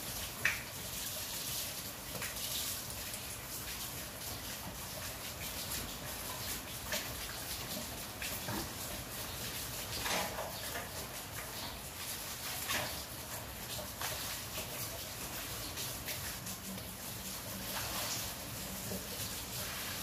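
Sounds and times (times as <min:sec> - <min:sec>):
heavy rain on paving: 0:00.0 - 0:20.0.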